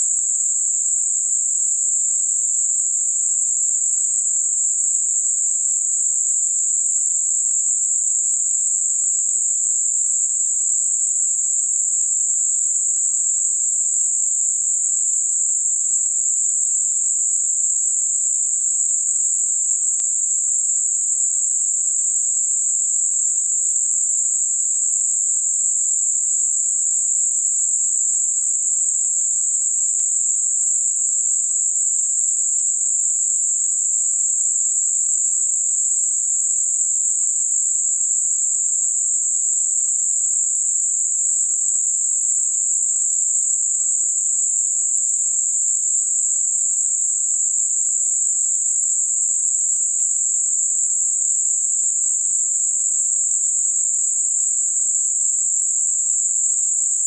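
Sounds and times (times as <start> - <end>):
very high-pitched hiss: 0.0 - 57.0.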